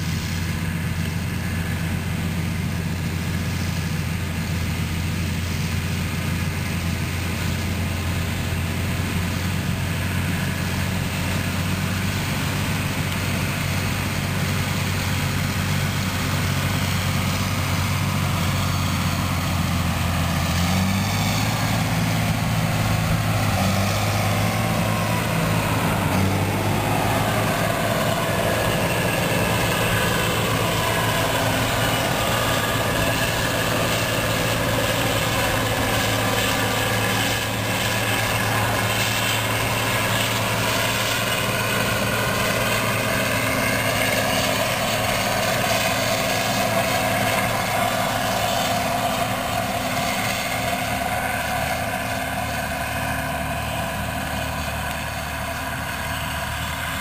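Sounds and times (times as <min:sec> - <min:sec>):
diesel engine running under load: 0:00.0 - 0:57.0
machinery whirring: 0:00.0 - 0:57.0.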